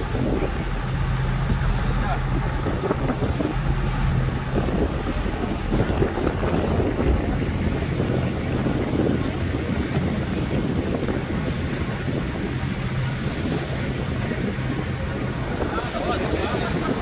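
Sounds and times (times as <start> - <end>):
ferry engine rumble: 0.0 - 17.0
wind on microphone: 0.0 - 17.0.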